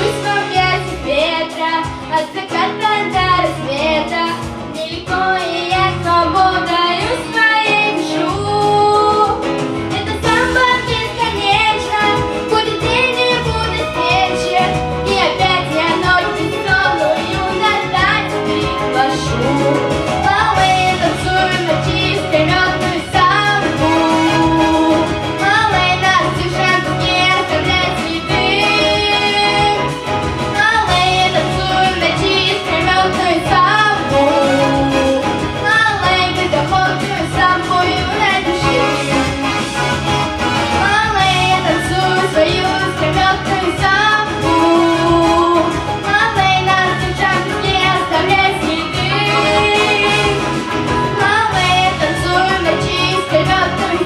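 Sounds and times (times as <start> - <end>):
musical accompaniment with bass: 0.0 - 54.0
violin playing samba melody: 8.9 - 54.0.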